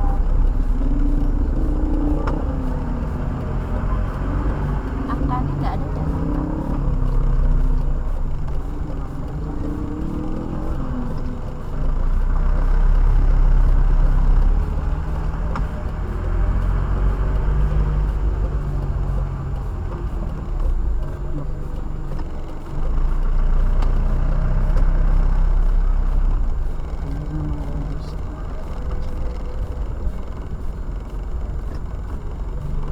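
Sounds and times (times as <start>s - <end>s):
car engine and road rumble: 0.0s - 32.9s.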